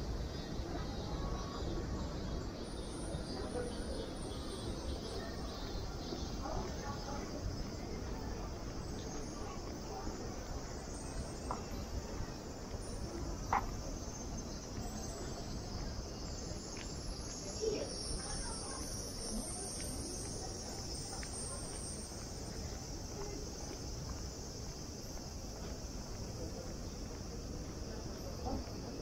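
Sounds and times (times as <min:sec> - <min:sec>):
cicadas droning: 0:00.0 - 0:29.0
low town background noise: 0:00.0 - 0:29.0.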